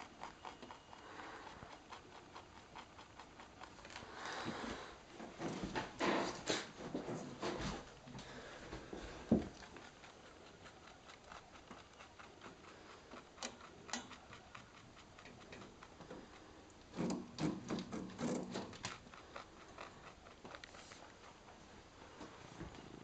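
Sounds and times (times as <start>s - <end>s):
rabbit crunching a carrot: 0.0s - 5.0s, 6.0s - 23.0s.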